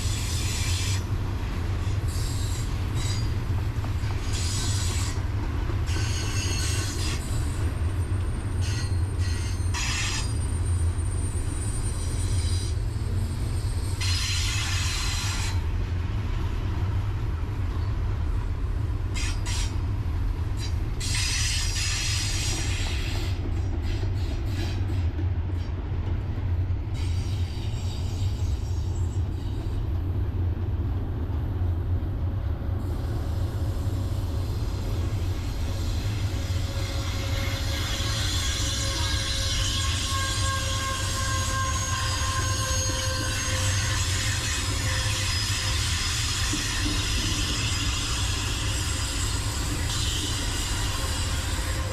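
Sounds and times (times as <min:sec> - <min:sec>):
train wheels squealing: 0:00.0 - 0:15.7, 0:19.1 - 0:25.8, 0:26.8 - 0:30.0, 0:32.8 - 0:51.9
freight train cars rumbling: 0:00.0 - 0:51.9.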